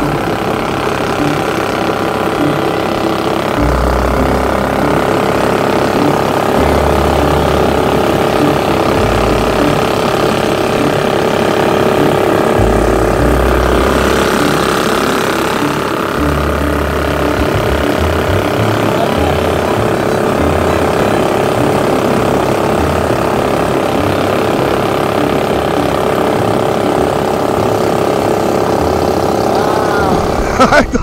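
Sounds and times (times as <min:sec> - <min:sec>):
boat motor running: 0:00.0 - 0:31.0.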